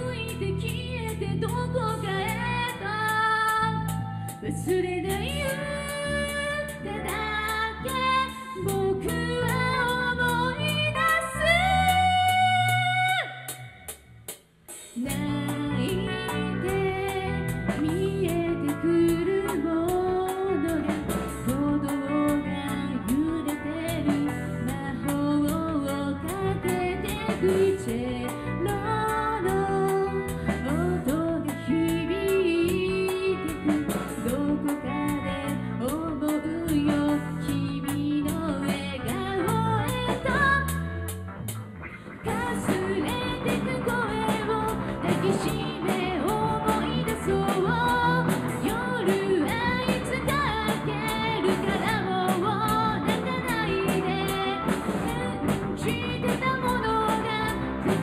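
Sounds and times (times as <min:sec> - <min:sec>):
electric guitars: 0:00.0 - 0:13.9, 0:15.0 - 0:58.0
woman singing: 0:00.0 - 0:13.9, 0:15.0 - 0:41.1, 0:42.2 - 0:58.0
drum kit: 0:00.0 - 0:58.0.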